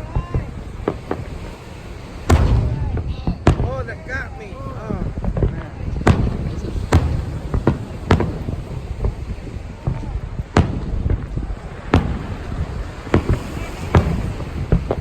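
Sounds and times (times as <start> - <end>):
fireworks booming: 0.0 - 15.0
low rumble of fireworks display: 0.0 - 15.0.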